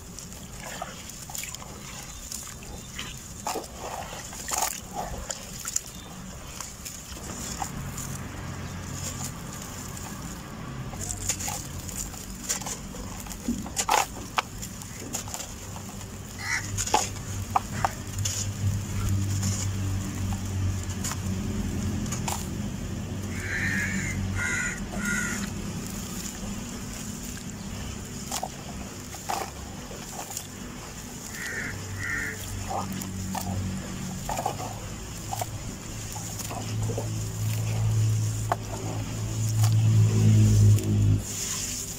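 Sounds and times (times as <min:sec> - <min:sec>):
dirt crumbling into water: 0:00.0 - 0:41.9
sharp splashes: 0:00.0 - 0:41.9
steady low hum: 0:00.0 - 0:41.9.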